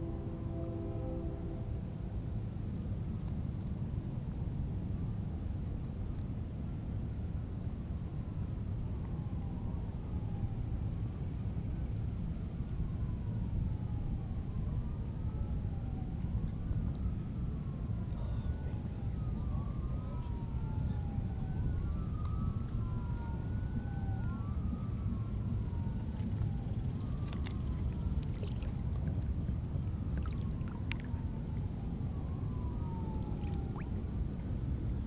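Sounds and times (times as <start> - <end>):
distant siren wailing: 0.0 - 2.4, 8.2 - 35.0
wind and water rumble: 0.0 - 35.0.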